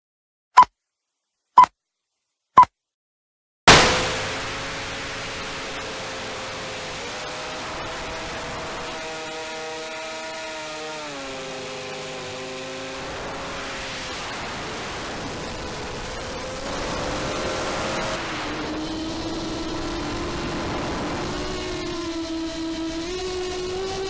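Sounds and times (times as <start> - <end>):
drone motors whining: 4.2 - 24.0.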